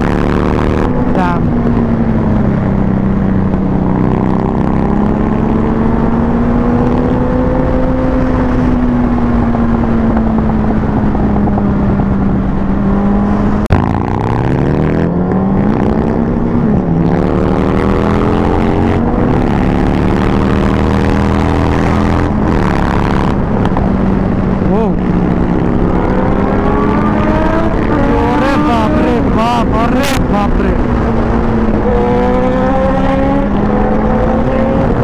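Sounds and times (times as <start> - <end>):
motorcycle engine revving: 0.0 - 35.0
wind rushing over microphone: 0.0 - 35.0.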